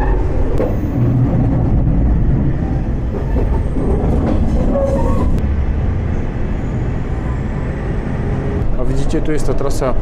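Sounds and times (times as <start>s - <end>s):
railcar rumbling: 0.0s - 10.0s.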